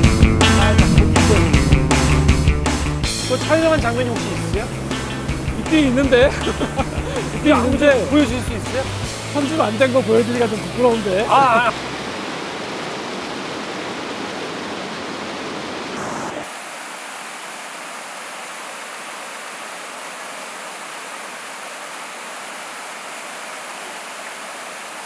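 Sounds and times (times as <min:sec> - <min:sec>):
waterfall rushing over rock: 0:00.0 - 0:25.0.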